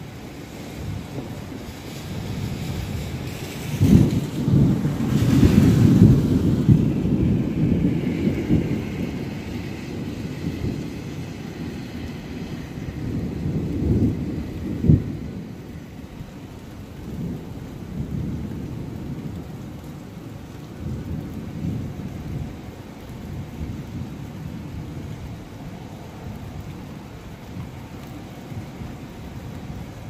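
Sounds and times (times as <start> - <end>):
steady rain: 0.0 - 30.0
thunder rumbling: 0.0 - 30.0.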